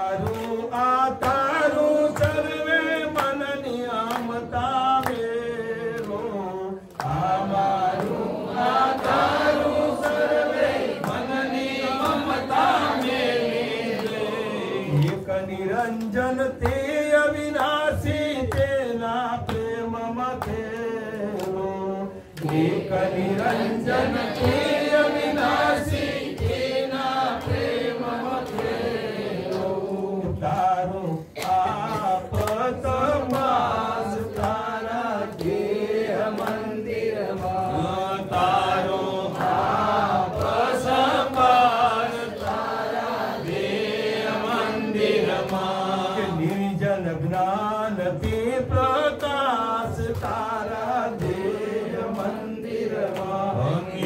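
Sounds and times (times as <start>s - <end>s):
men chanting a hymn: 0.0s - 54.0s.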